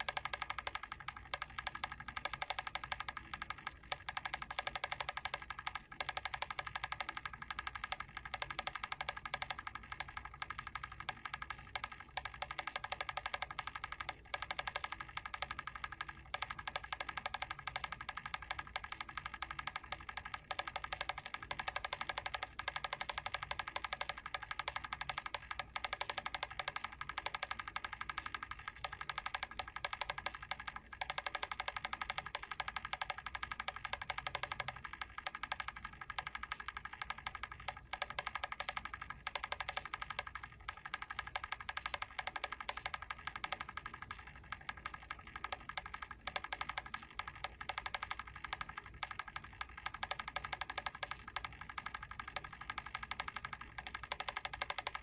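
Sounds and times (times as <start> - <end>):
mechanical timer ticking: 0.0 - 55.0.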